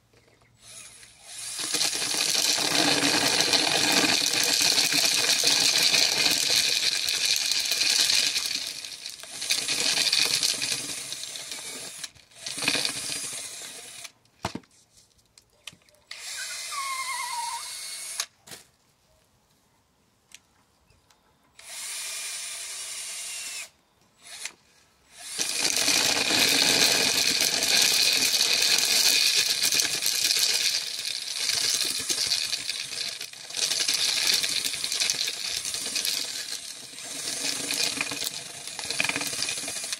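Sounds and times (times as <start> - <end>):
drill-powered corn sheller rattling: 0.0 - 14.2, 16.1 - 18.3, 21.6 - 39.9.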